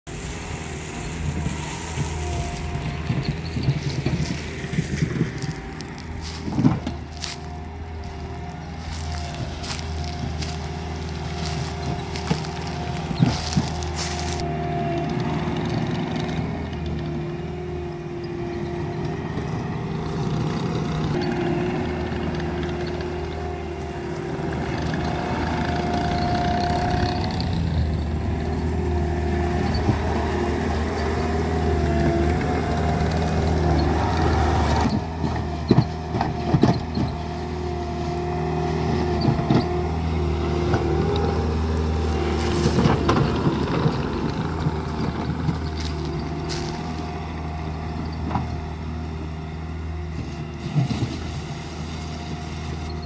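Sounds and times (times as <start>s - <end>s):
diesel engine running: 0.0s - 53.0s
bucket and tracks clanking on gravel: 0.1s - 17.6s, 19.0s - 49.0s.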